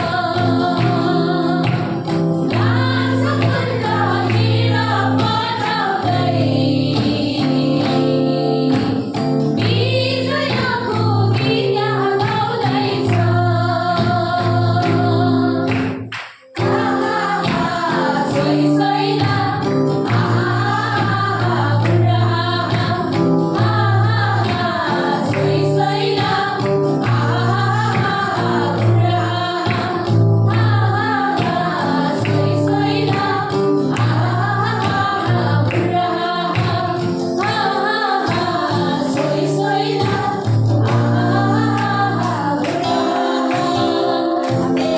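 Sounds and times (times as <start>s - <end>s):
women singing gospel song: 0.0s - 44.9s.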